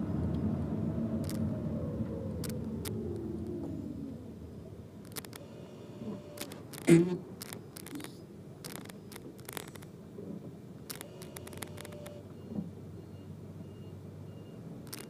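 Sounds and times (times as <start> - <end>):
low steady cabin hum: 0.0 - 12.8.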